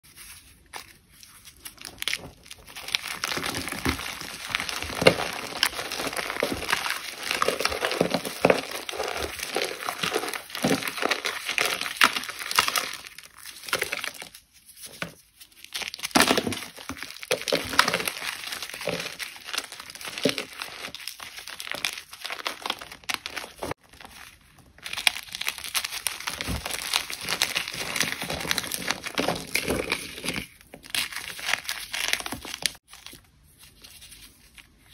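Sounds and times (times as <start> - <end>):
chalk being crushed: 0.0 - 34.5.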